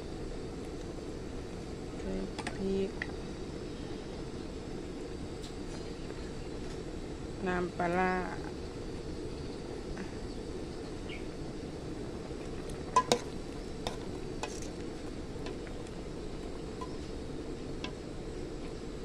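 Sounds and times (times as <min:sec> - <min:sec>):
pot boiling: 0:00.0 - 0:19.0.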